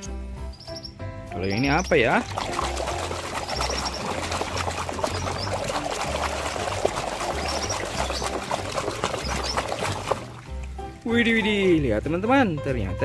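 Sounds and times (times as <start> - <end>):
background music bass notes: 0.0 - 13.0
water pouring and splashing: 1.4 - 12.3.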